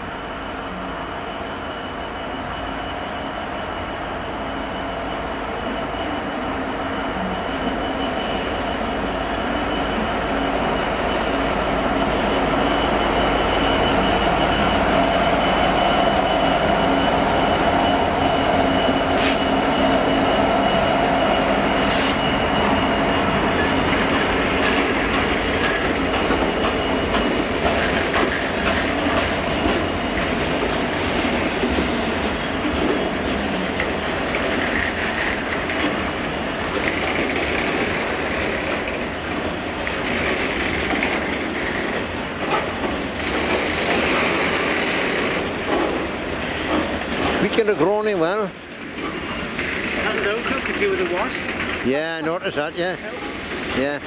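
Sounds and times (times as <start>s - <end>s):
diesel locomotive engine drone: 0.0s - 54.0s.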